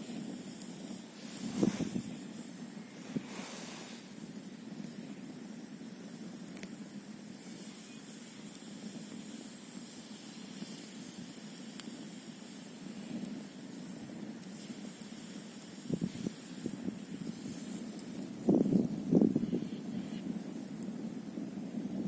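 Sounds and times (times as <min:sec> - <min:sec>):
campfire hissing: 0:00.0 - 0:22.0
fire crackles and pops: 0:00.0 - 0:22.0.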